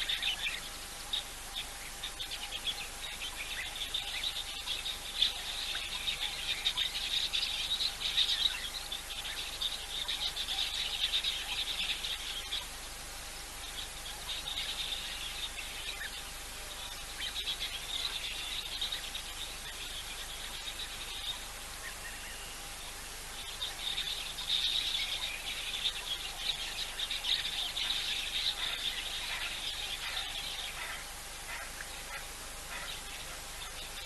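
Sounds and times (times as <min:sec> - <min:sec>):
birds chirping: 0:00.0 - 0:34.0
faint steady hum: 0:00.0 - 0:34.0.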